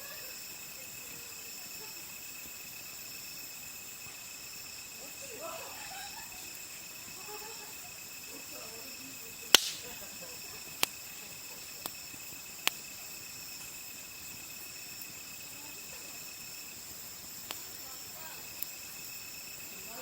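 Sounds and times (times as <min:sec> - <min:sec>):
crickets chirping: 0:00.0 - 0:20.0
wood fire crackling and popping: 0:00.4 - 0:05.3, 0:06.3 - 0:20.0.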